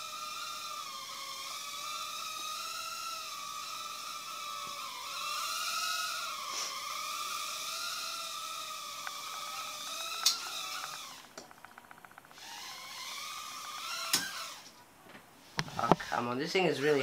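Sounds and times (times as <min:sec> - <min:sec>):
small drone motors whining: 0:00.0 - 0:14.8.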